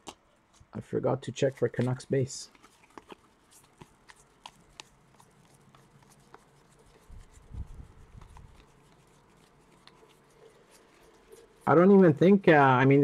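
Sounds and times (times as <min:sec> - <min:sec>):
trading cards being handled: 0:00.0 - 0:13.0.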